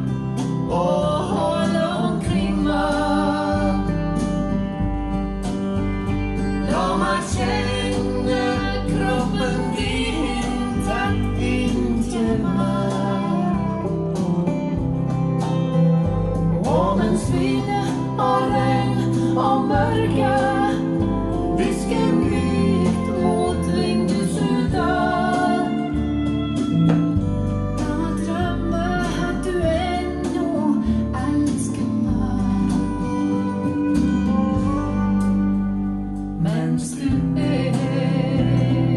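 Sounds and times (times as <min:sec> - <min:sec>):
person singing: 0:00.0 - 0:04.9, 0:06.6 - 0:35.4, 0:36.3 - 0:38.9
guitar and bass: 0:00.0 - 0:38.9.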